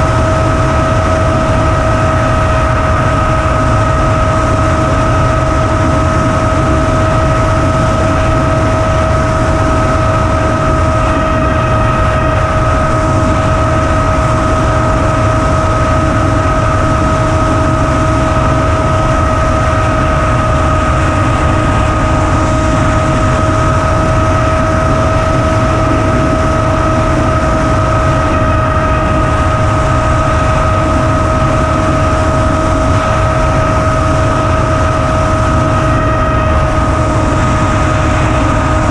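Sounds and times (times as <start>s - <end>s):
electric motor and propeller whining: 0.0s - 38.9s
wind rush: 0.0s - 38.9s.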